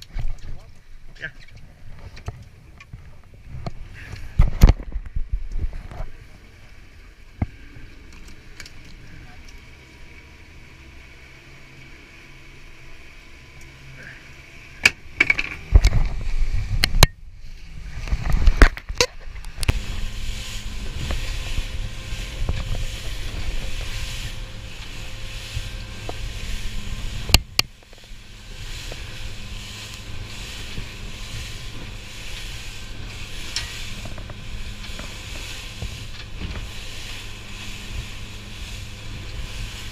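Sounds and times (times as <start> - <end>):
boat engine hum: 0.0 - 39.9
wind and spray: 0.0 - 39.9.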